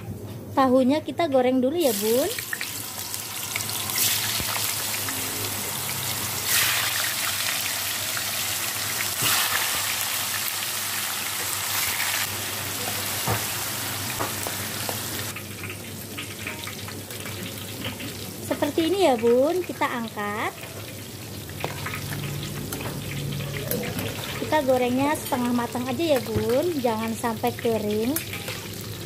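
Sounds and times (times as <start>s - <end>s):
tofu sizzling in hot oil: 1.8s - 29.0s.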